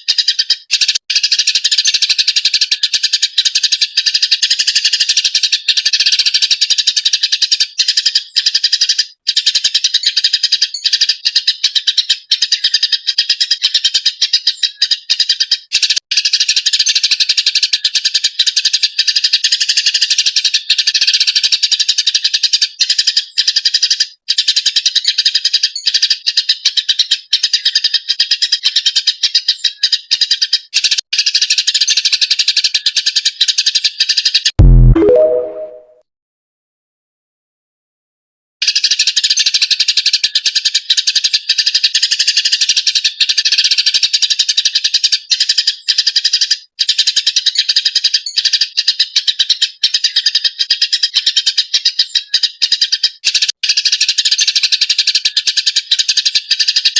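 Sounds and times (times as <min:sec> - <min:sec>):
sparrow chattering and chirping: 0:00.0 - 0:34.5, 0:38.6 - 0:56.9.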